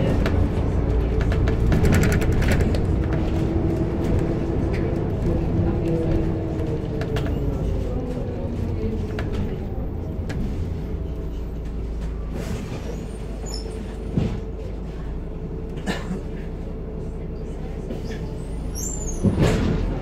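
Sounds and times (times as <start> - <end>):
bus diesel engine running: 0.0 - 20.0
road noise: 0.0 - 20.0.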